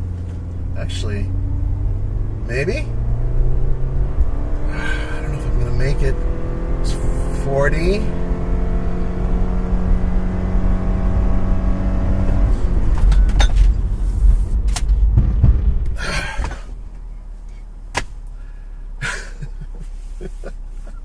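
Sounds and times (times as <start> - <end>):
car engine at full throttle: 0.0 - 21.0
road rumble: 0.0 - 21.0.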